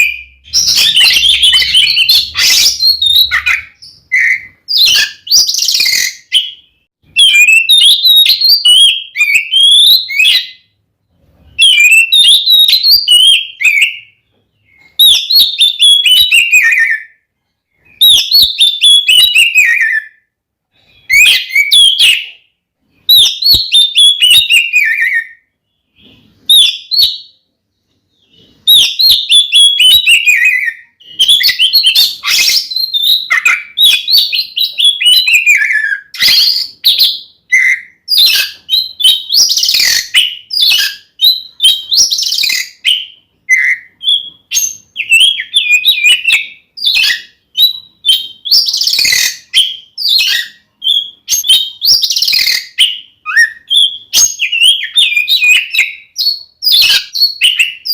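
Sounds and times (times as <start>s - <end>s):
magpie-robin singing: 0.0s - 10.8s, 11.4s - 57.9s.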